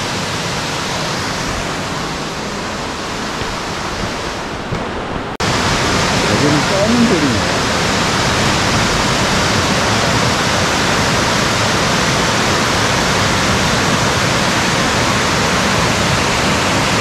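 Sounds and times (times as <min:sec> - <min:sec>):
stream rushing over rock: 0:00.0 - 0:17.0.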